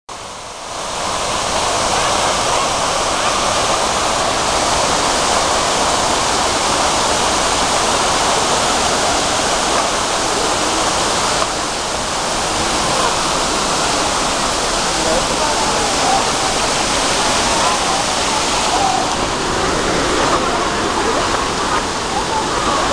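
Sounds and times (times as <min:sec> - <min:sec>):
fountain water splashing: 0:00.1 - 0:22.9.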